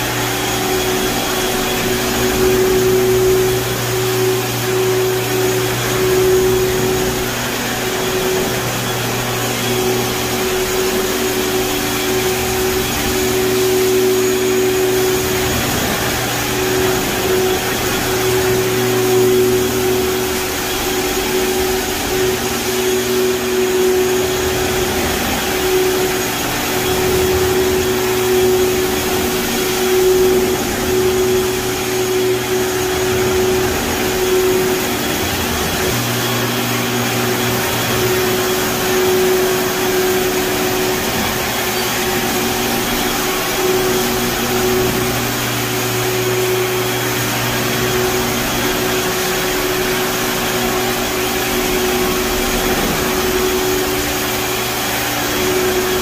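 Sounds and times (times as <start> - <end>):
floor scrubber motor and suction: 0.0 - 56.0
intermittent whine: 0.0 - 56.0
low hum: 0.0 - 56.0.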